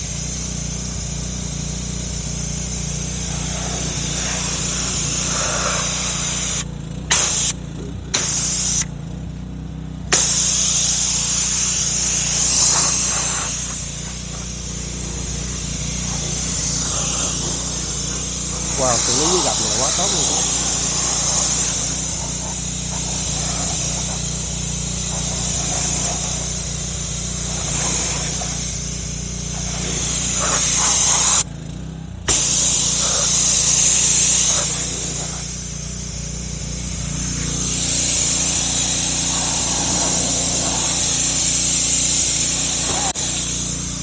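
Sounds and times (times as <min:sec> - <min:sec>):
hiss of water jets: 0:00.0 - 0:09.0, 0:10.1 - 0:31.5, 0:32.3 - 0:44.0
steady low hum: 0:00.0 - 0:44.0.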